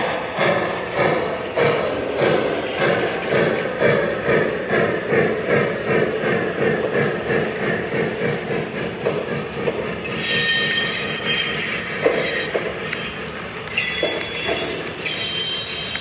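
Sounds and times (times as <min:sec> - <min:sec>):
model train rolling on track: 0:00.0 - 0:16.0.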